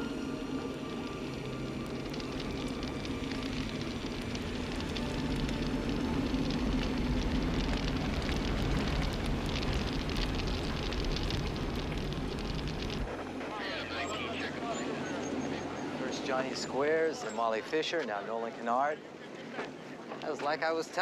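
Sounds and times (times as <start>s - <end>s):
steady low rumble: 0.0s - 17.8s
fire crackling: 0.0s - 21.0s.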